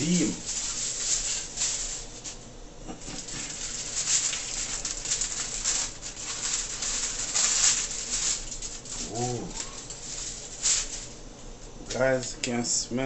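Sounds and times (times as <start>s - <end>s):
aluminium foil crinkling: 0.0s - 2.4s, 3.0s - 11.2s.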